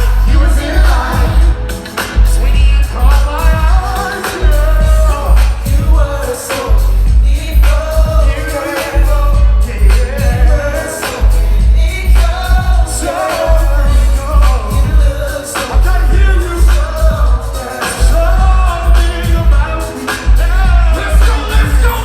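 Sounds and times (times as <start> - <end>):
loud backing music with heavy bass: 0.0 - 22.0
person singing: 0.0 - 22.0.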